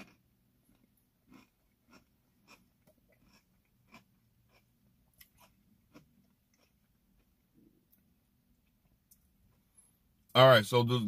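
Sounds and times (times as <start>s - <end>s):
chewing cereal: 0.0s - 9.6s.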